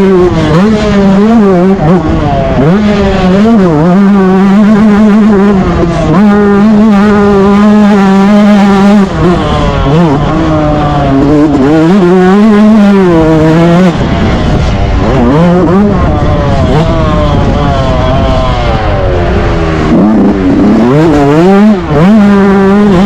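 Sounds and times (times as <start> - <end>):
two-stroke motocross engine revving: 0.0 - 23.0.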